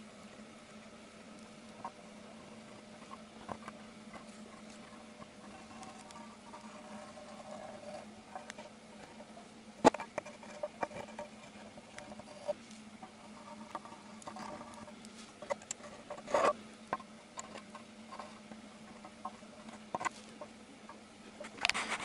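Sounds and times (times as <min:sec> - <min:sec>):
small clicks and scratchy rustles: 0:00.0 - 0:22.0
steady low hum: 0:00.0 - 0:22.0.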